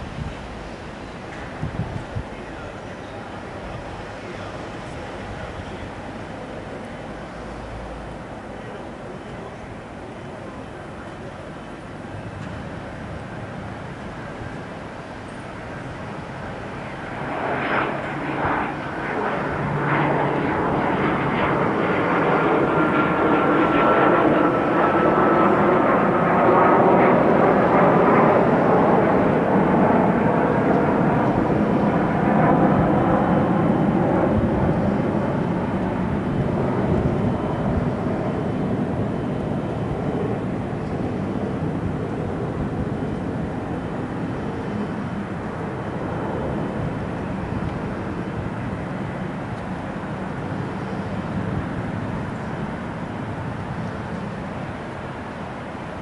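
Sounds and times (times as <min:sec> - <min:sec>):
jet engines passing by: 0:00.0 - 0:56.0.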